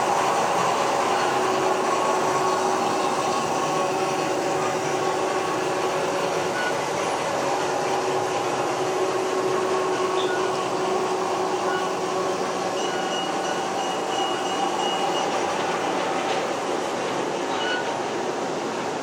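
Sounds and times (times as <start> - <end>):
model trains rolling rumble: 0.0 - 19.0.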